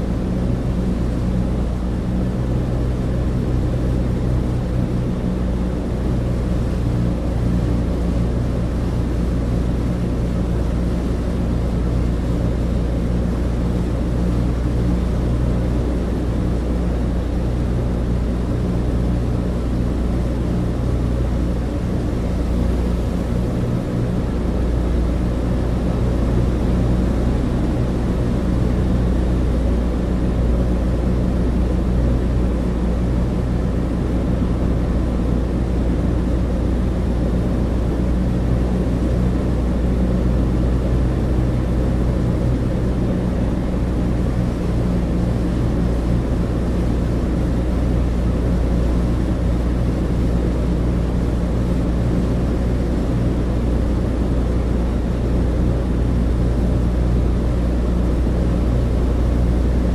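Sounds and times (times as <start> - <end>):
aircraft engines droning: 0.0 - 59.9.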